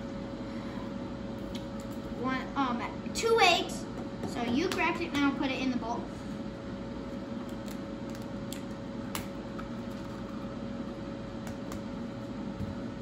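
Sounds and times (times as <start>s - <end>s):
air fryer fan humming: 0.0s - 13.0s.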